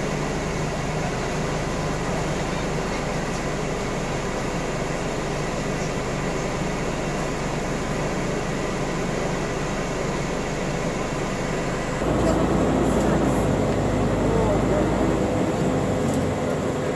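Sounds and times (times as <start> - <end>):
bus diesel engine idling: 0.0 - 16.9.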